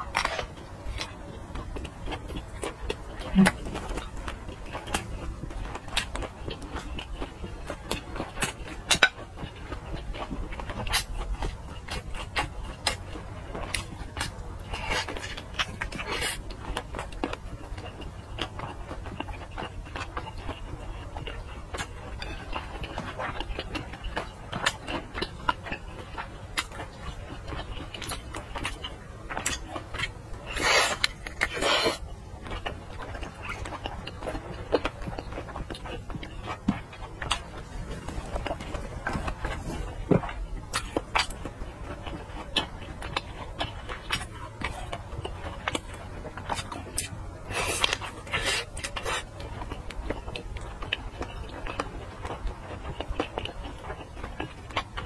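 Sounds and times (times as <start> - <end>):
chewing and biting sausage: 0.0 - 55.0.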